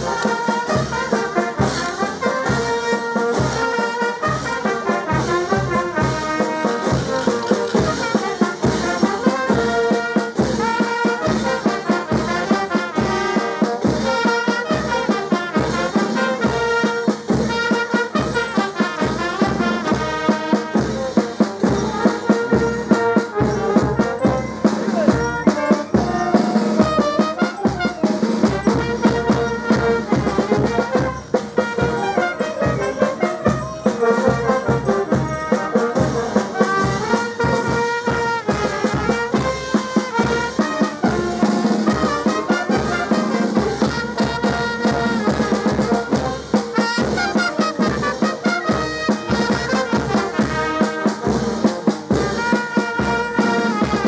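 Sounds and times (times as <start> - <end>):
brass band playing dance music: 0.0 - 54.0
steady drum beat: 0.0 - 54.0.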